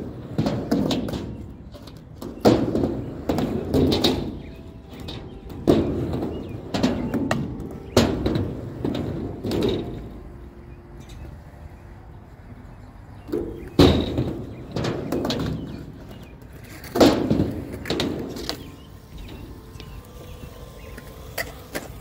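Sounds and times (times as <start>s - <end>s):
skateboard impacts: 0.0s - 12.5s, 13.1s - 22.0s
skateboard wheels rolling: 0.0s - 22.0s.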